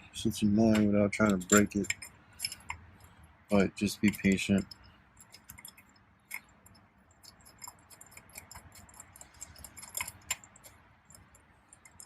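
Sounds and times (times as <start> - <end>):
small metal clicks and rattling: 0.7 - 12.0.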